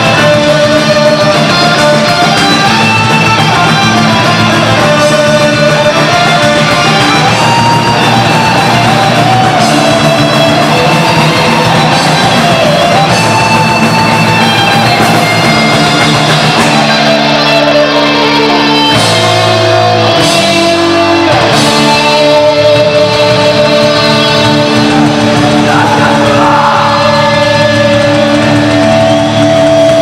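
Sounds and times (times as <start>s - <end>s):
distorted electric guitars: 0.0s - 30.0s
drum kit: 0.0s - 30.0s.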